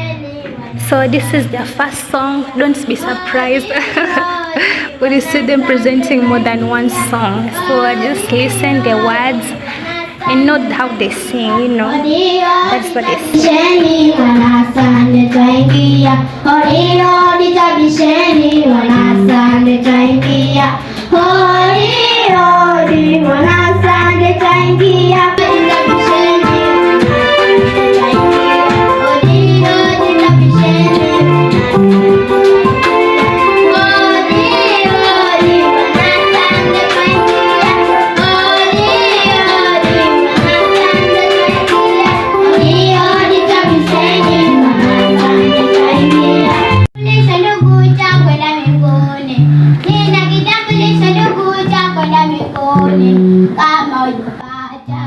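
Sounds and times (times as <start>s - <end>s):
musical accompaniment: 0.0s - 3.4s, 5.1s - 9.7s, 10.3s - 53.8s
children singing a church song: 2.4s - 55.0s.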